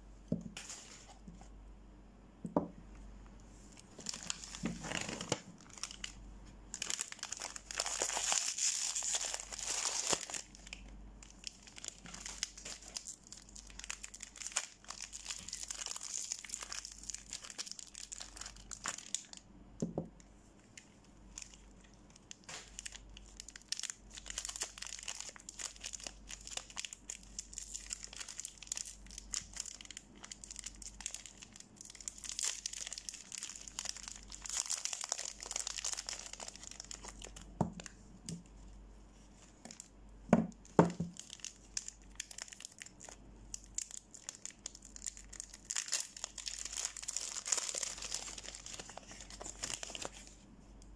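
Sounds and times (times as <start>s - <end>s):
paper wrappers crinkling and tearing: 3.8s - 19.4s, 21.3s - 37.9s, 41.0s - 50.4s.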